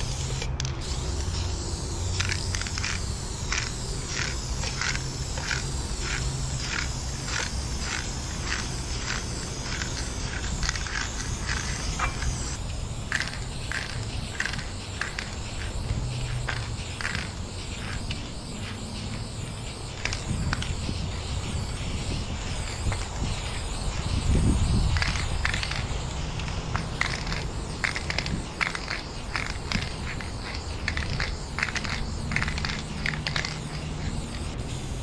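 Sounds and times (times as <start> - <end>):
spray paint hissing: 0.0 - 35.0.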